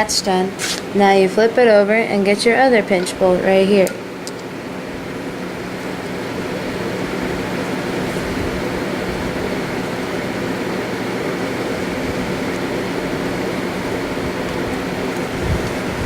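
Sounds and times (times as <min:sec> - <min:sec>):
machinery hum with hiss: 0:00.0 - 0:16.0.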